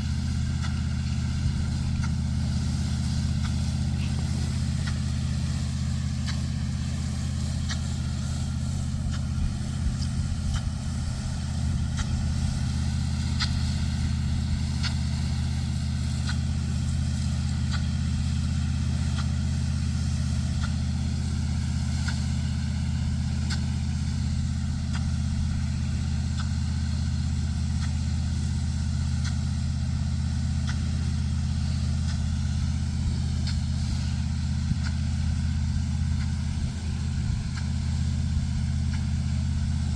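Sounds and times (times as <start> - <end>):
large engine running steadily: 0.0 - 39.9.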